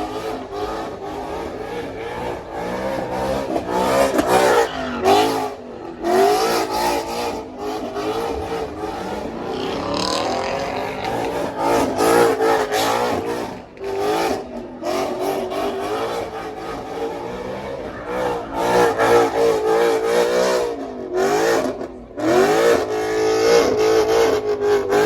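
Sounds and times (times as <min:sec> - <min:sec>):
car engine revving hard: 0:00.0 - 0:25.0.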